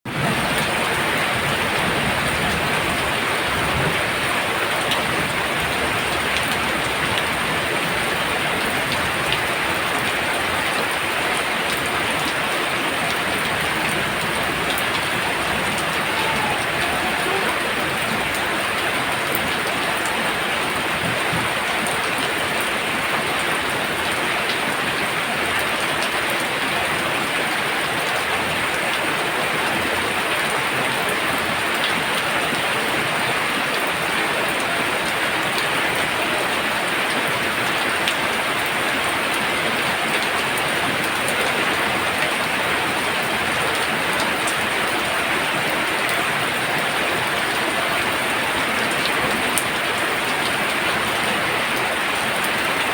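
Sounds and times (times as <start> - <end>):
heavy rain falling: 0.1 - 52.9.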